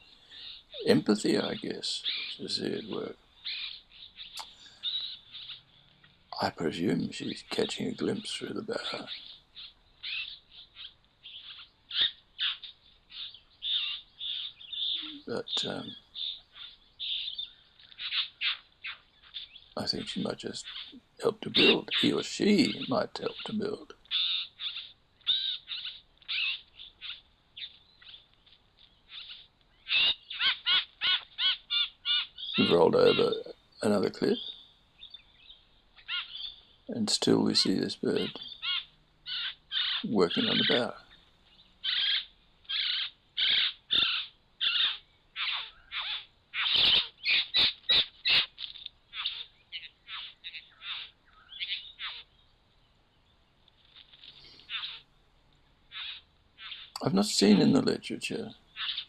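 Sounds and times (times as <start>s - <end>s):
bird harsh calls: 0.0s - 52.4s, 53.8s - 55.1s, 55.8s - 59.0s.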